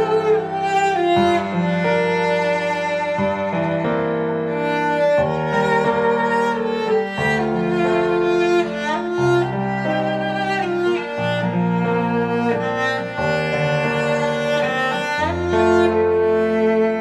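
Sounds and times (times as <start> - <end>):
cello duet over speakers: 0.0 - 17.0
piano: 0.0 - 17.0.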